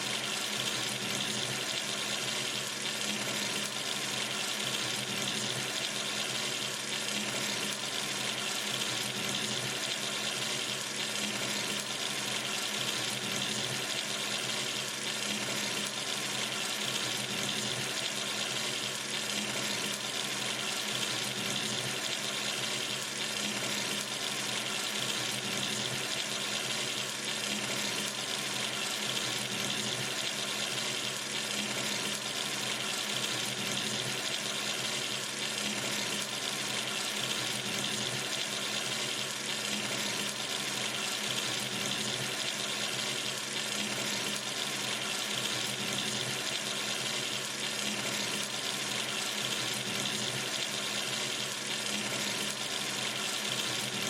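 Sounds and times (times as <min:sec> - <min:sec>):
tap water running into sink: 0:00.0 - 0:54.0.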